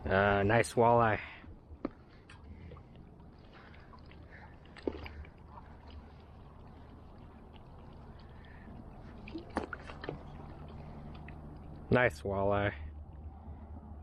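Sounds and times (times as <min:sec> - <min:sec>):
water lapping and trickling: 0:00.0 - 0:13.8.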